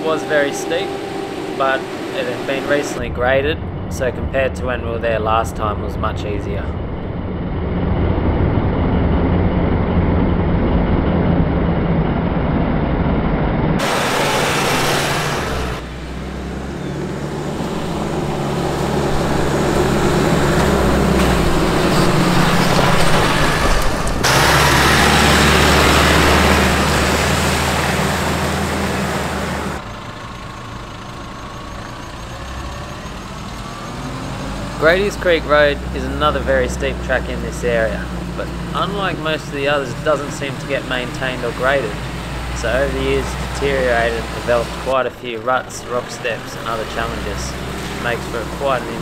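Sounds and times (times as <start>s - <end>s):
truck engine running: 0.0s - 49.0s.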